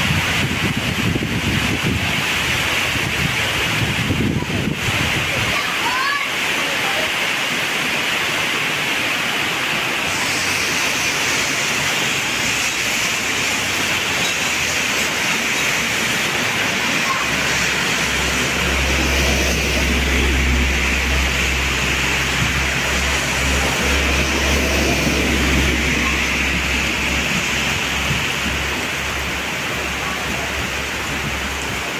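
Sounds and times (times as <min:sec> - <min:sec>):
heavy rain on roofs and road: 0:00.0 - 0:31.9
truck engine driving through water: 0:00.0 - 0:31.9.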